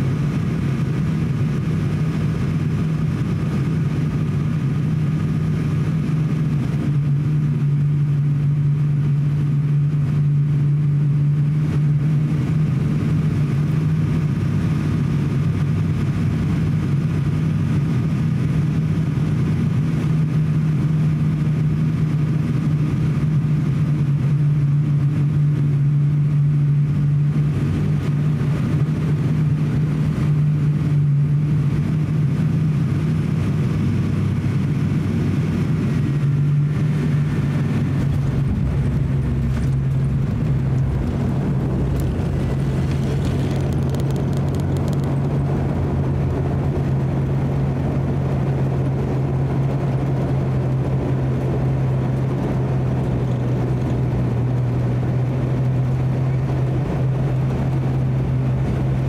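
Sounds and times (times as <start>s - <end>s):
aircraft engines droning in cabin: 0.0s - 59.0s.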